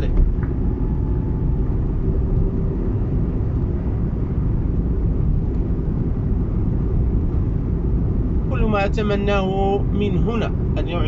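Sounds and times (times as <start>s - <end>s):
car driving on road: 0.0s - 11.0s.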